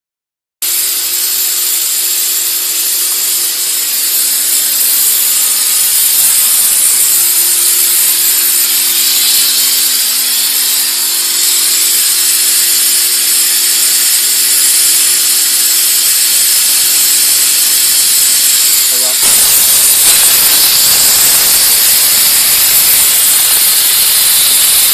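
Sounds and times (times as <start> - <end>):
steam hissing: 0.6 - 24.9
machine hum: 3.2 - 24.9.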